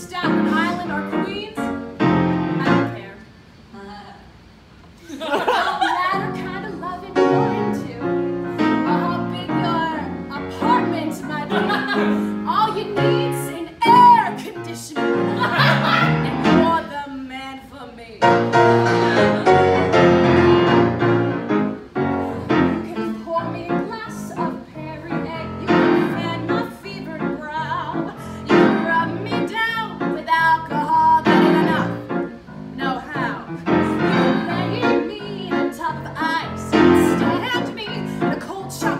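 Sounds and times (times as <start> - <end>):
woman singing: 0.0 - 1.8, 5.8 - 20.0, 22.3 - 38.9
grand piano accompaniment: 0.0 - 3.2, 5.4 - 16.9, 18.2 - 38.9.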